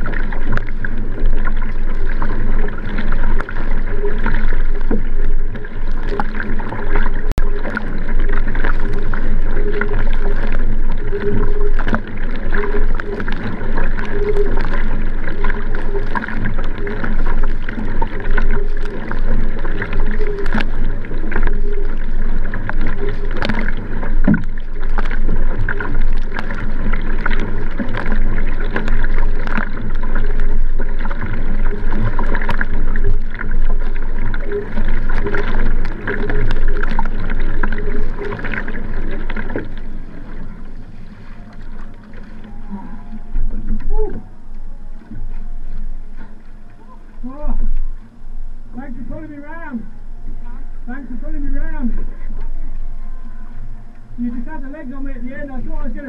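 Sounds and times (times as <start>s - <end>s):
paddle strokes in water: 0.0s - 56.0s
water rushing along kayak hull: 0.0s - 56.0s.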